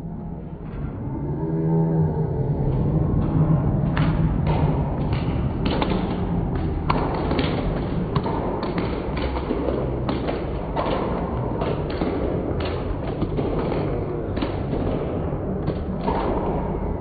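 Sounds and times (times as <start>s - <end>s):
football crowd noise: 2.7s - 17.0s.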